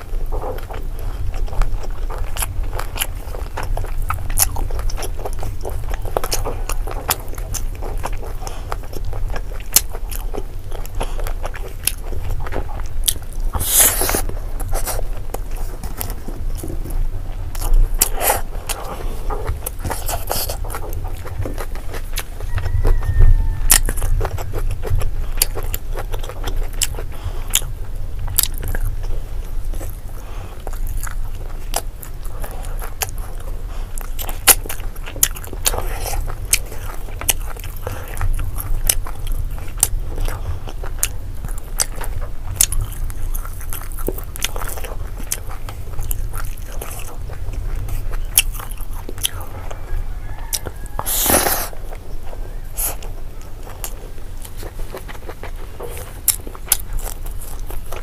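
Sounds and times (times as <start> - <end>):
low hum: 0.0 - 58.0
person chewing: 0.0 - 58.0.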